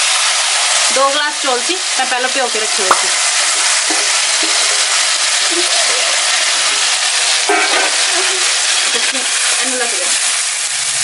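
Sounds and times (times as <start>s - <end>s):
rice sizzling in hot fat: 0.0s - 11.0s.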